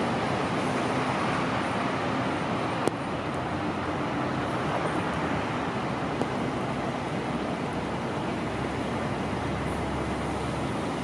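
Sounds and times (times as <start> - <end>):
traffic on wet street: 0.0 - 11.0.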